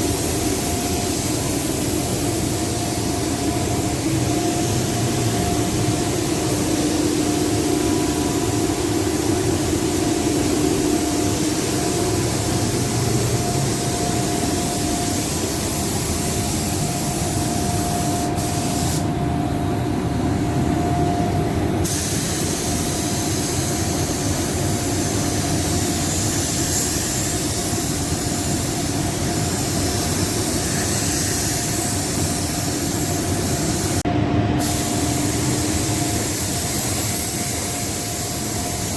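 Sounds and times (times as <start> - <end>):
paint spray gun hissing: 0.0 - 19.1, 21.8 - 34.0, 34.6 - 38.9
steady hum: 0.0 - 38.9.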